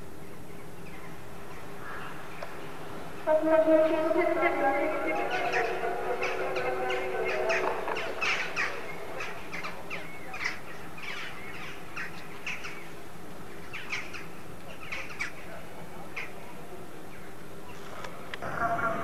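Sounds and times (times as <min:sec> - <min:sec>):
flock of birds chirping: 0:00.1 - 0:19.0.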